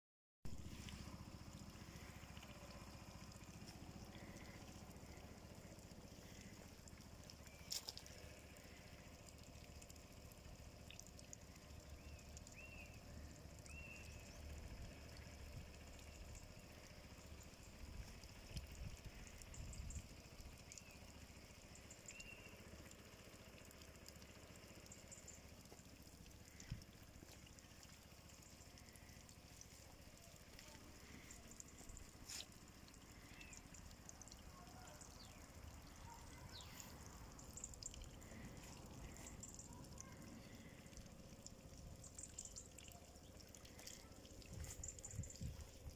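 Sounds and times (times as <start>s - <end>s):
faint bird chirps: 0.5s - 45.9s.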